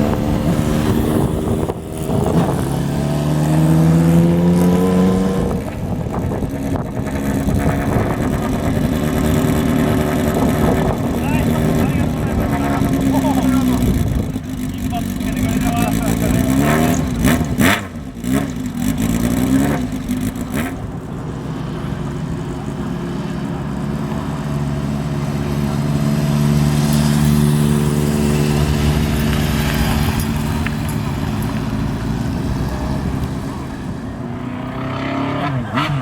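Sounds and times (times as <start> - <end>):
motorcycle revving: 0.0 - 36.0
motorcycles riding past: 0.0 - 36.0.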